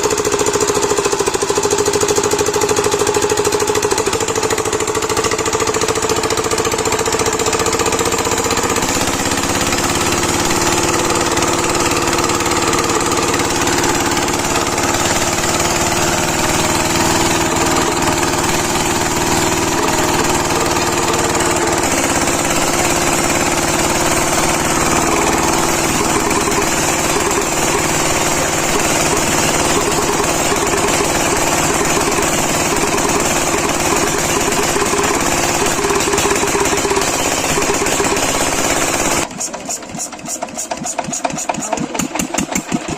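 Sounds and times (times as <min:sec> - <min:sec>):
diesel pump engine knocking: 0:00.0 - 0:42.9.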